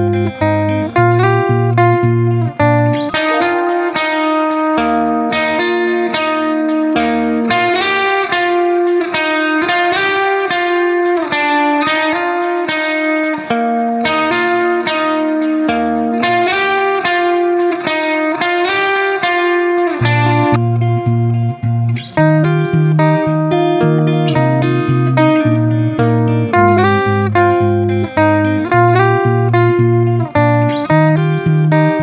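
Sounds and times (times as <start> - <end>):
plucked guitar melody: 0.0 - 32.0.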